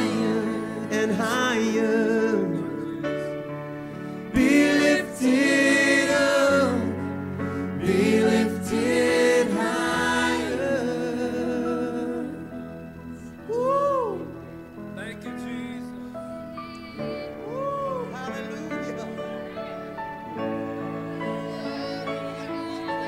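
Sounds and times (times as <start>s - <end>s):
sustained keyboard chords: 0.0s - 23.0s.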